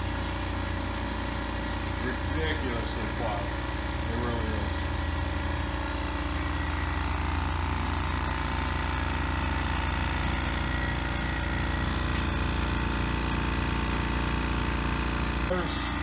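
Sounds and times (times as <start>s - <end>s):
air compressor humming: 0.0s - 16.0s.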